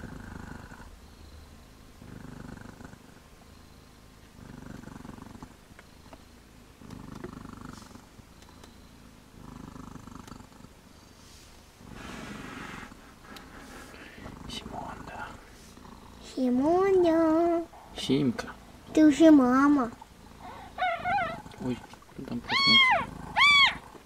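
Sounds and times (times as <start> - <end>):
cat purring: 0.0 - 1.0, 2.0 - 3.6, 4.4 - 5.6, 6.8 - 11.1, 11.8 - 24.0.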